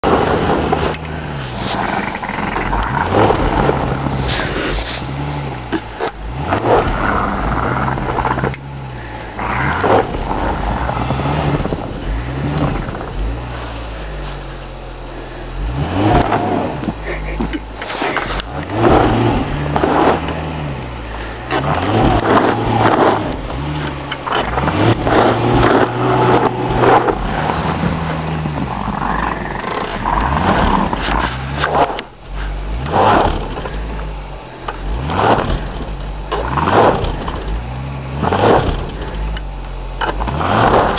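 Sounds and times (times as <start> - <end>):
car engine revving: 0.0 - 40.9
wheels spinning in snow: 0.0 - 40.9.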